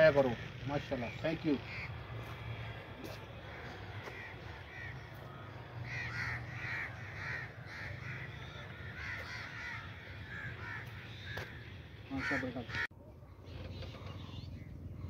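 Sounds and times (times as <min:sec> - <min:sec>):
crows cawing: 0:00.0 - 0:12.9.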